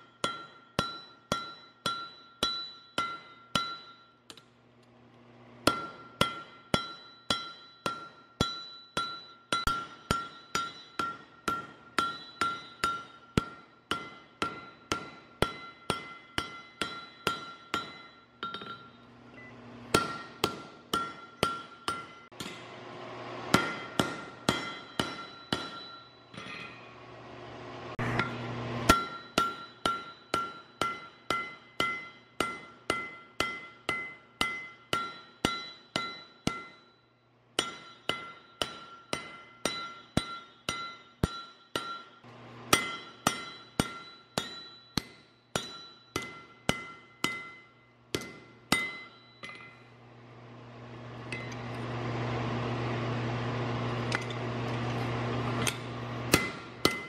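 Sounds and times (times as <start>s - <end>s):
anvil ringing: 0.0s - 4.4s, 5.6s - 22.7s, 23.5s - 27.0s, 28.0s - 50.0s, 55.6s - 57.0s
hammer striking metal on anvil: 0.0s - 4.5s, 5.6s - 19.2s, 19.8s - 22.8s, 23.4s - 27.0s, 27.9s - 50.0s, 51.3s - 51.8s, 54.0s - 54.5s, 55.5s - 57.0s.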